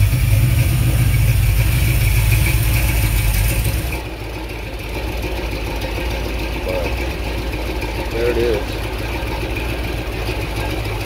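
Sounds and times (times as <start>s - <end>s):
v eight engine idling: 0.0s - 11.0s.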